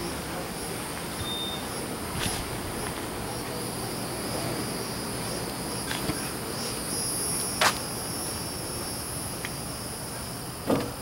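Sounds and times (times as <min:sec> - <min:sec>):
faint high-pitched whine: 0:00.0 - 0:11.0
outdoor background noise: 0:00.0 - 0:11.0.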